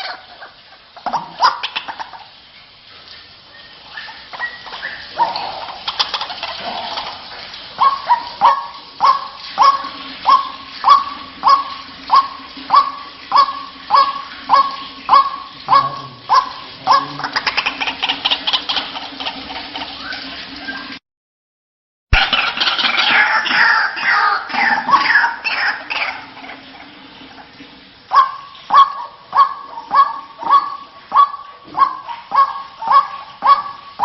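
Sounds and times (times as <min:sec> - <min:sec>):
waterhen calling: 0:00.0 - 0:21.0, 0:22.1 - 0:34.0.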